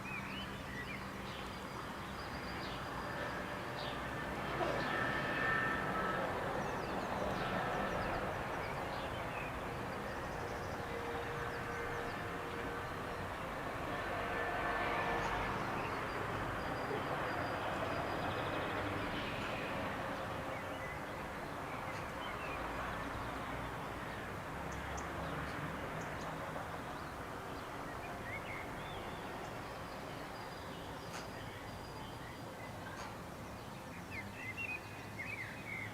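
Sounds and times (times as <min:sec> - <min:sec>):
outdoor background noise: 0:00.0 - 0:35.9.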